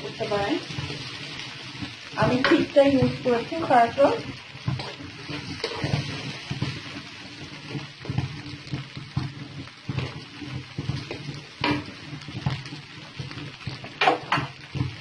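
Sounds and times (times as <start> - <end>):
noodles sizzling in a frying pan: 0.0 - 15.0.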